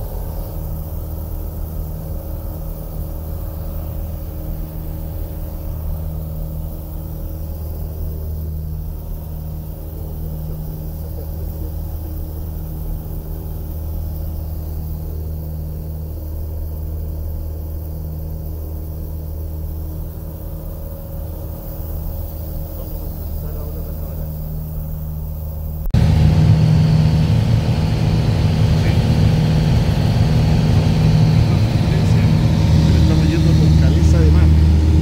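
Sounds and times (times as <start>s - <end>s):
light aircraft engine droning: 0.0s - 35.0s.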